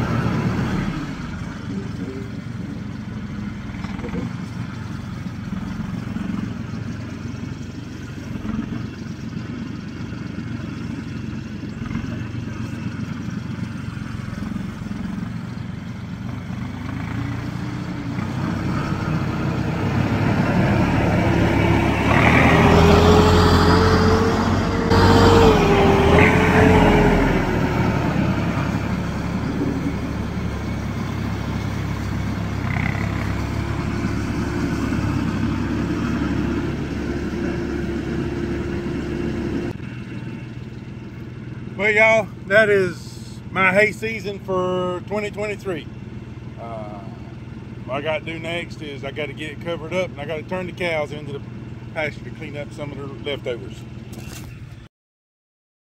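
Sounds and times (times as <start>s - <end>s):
vehicle engine running with whine: 0.0s - 54.9s.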